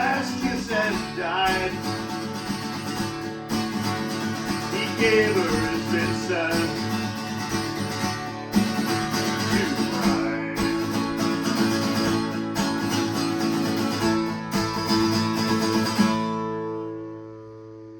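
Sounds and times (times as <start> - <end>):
acoustic guitar playing: 0.0 - 17.9.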